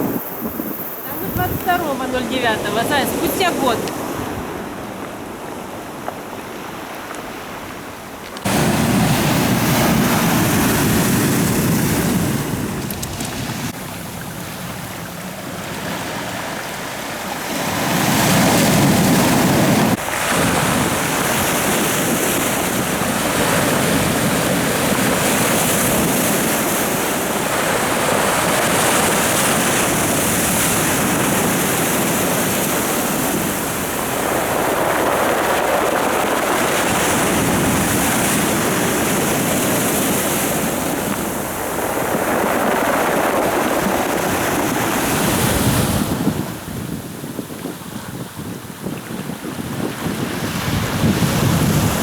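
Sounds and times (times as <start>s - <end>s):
sea waves breaking on shore: 0.0s - 52.0s
wind on microphone: 0.0s - 52.0s.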